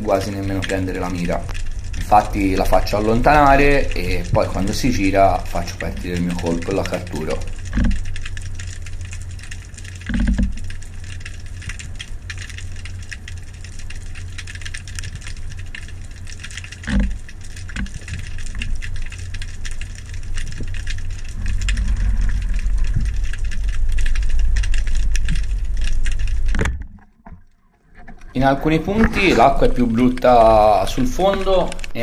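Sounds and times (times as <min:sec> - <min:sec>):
fine crackling: 0:00.0 - 0:32.0
low underwater rumble: 0:00.0 - 0:32.0.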